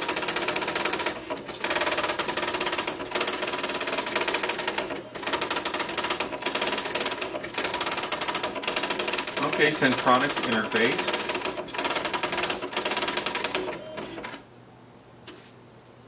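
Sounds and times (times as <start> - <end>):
daisy wheel printer rattling: 0.0 - 13.6.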